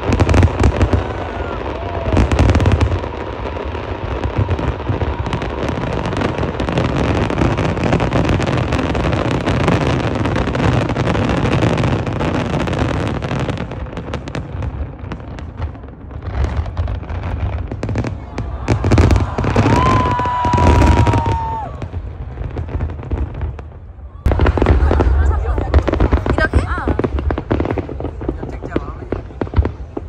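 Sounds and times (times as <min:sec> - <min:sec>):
fireworks bursting and popping: 0:00.0 - 0:30.0.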